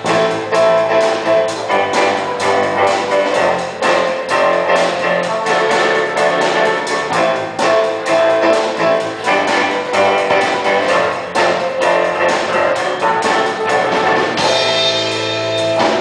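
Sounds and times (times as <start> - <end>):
band playing live music: 0.0 - 16.0.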